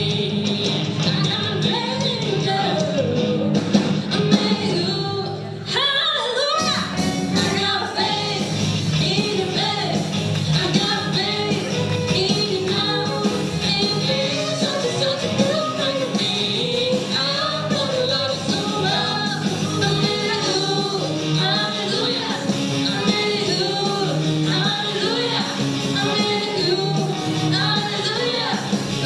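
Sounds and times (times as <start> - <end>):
lead singer singing: 0.0 - 29.0
live rock band: 0.0 - 29.0.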